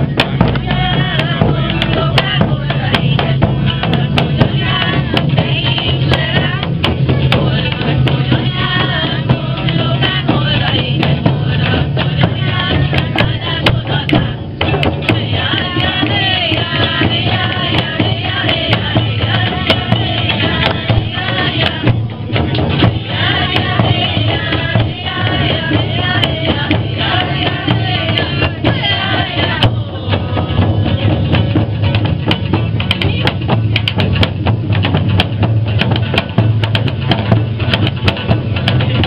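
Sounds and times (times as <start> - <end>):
group of voices singing: 0.0 - 39.0.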